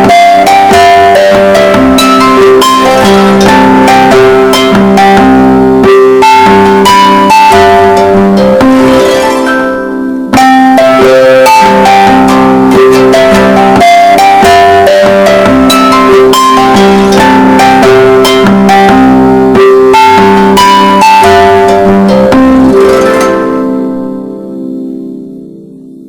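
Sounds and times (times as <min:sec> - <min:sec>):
distorted phone ringtone melody: 0:00.0 - 0:25.1.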